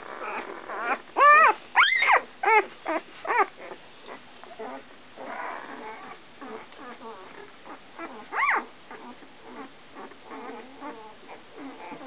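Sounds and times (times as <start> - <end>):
puppies whimpering and grunting: 0.0 - 12.0
puppy squealing: 0.0 - 12.0.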